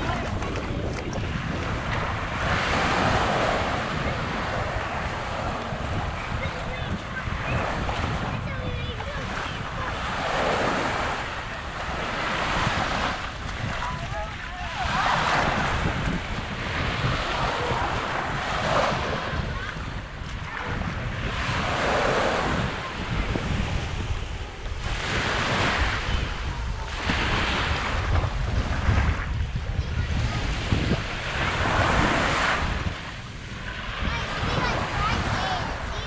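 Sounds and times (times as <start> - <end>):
small waves breaking on beach: 0.0 - 36.0
wind rumbling on microphone: 0.0 - 36.0.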